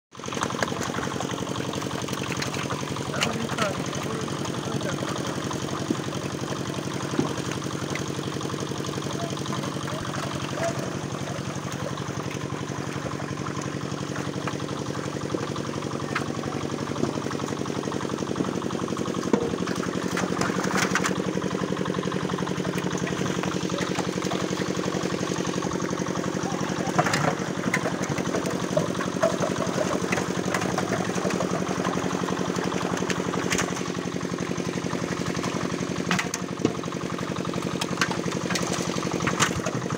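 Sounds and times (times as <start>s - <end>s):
engine running steadily: 0.1s - 39.9s
fish splashing in water: 0.1s - 39.9s.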